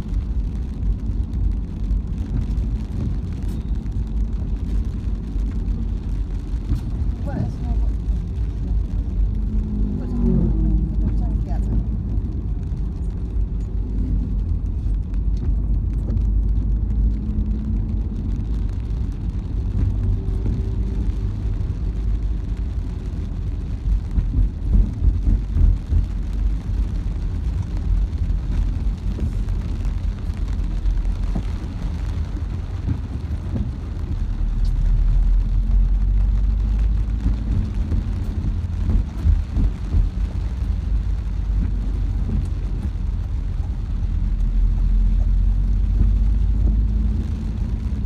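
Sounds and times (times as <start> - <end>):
engine and tyres rumbling: 0.0 - 48.0
rain ticking on windscreen: 0.0 - 48.0.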